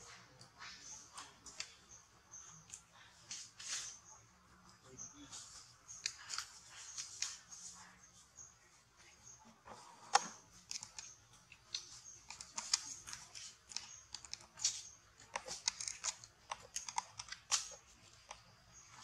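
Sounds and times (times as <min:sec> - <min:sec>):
small crisp clicks and crackles: 0:00.1 - 0:19.0.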